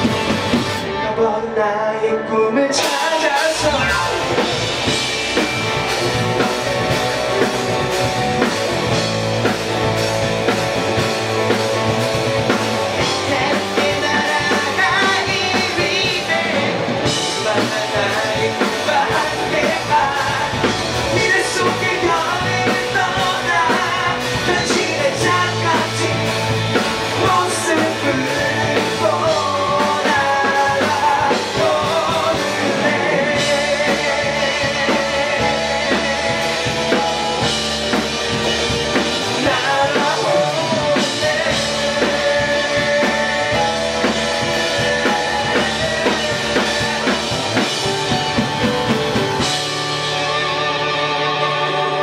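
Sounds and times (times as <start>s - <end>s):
man singing lead: 0.0s - 52.0s
rock band playing live: 0.0s - 52.0s.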